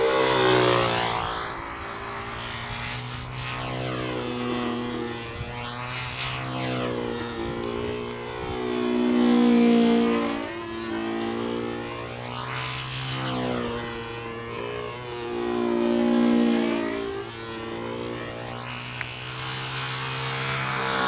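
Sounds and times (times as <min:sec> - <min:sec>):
model aircraft engine at high revs: 0:00.0 - 0:21.0.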